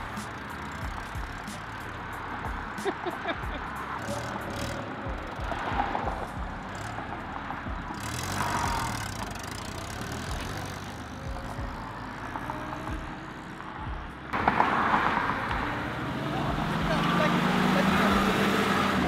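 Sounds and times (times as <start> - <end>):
jeep engine pulling away: 0.0 - 19.0.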